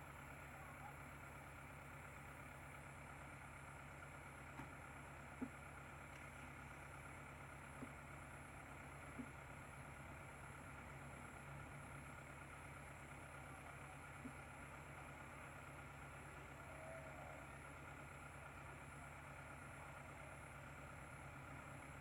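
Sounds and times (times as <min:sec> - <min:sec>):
faint engine running: 0:00.0 - 0:22.0.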